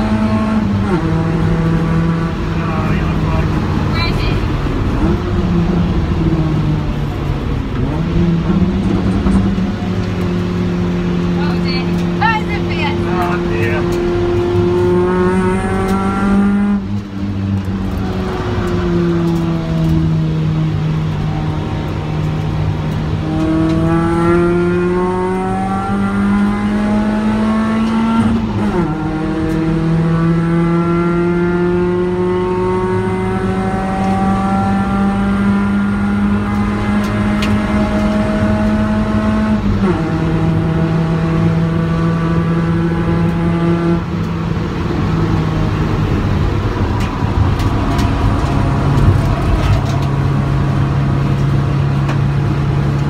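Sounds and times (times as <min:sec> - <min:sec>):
car engine under load from cabin: 0:00.0 - 0:53.0.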